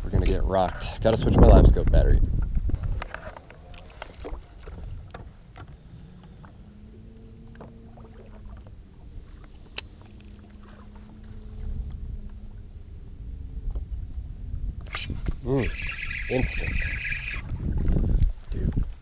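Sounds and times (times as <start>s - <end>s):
water noise around boat: 0.0s - 19.0s
wind: 0.0s - 19.0s
faint steady hum: 0.1s - 19.0s.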